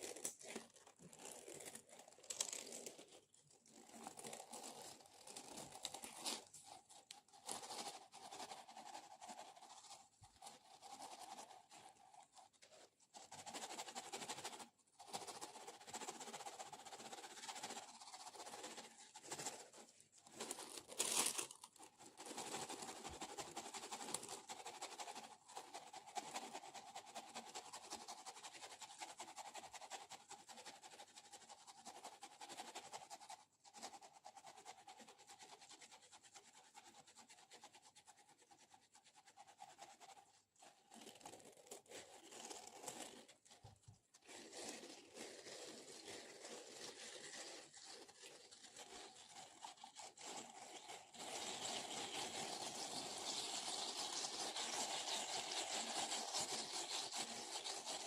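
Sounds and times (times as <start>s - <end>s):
scratching and rubbing: 0.0s - 58.0s.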